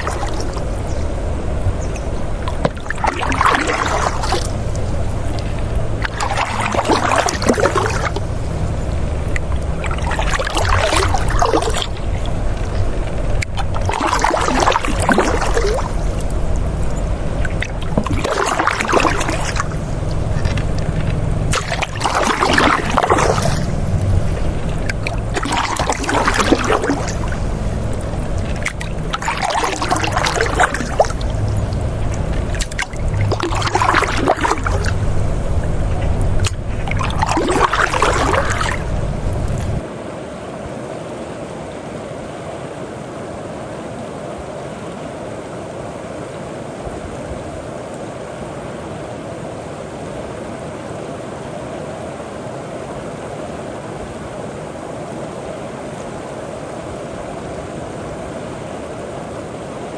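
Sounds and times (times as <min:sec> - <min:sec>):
river water flowing: 0:00.0 - 0:59.9
water splashing and gurgling: 0:00.0 - 0:59.9.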